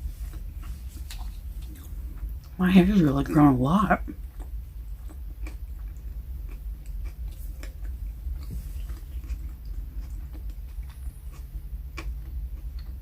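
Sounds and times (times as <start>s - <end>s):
person chewing: 0.0s - 2.6s, 4.0s - 13.0s
low hum: 0.0s - 13.0s.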